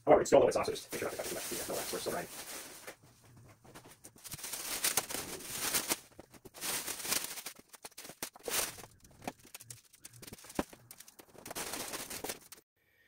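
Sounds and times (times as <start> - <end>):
plastic sheeting crinkling: 0.8 - 12.6.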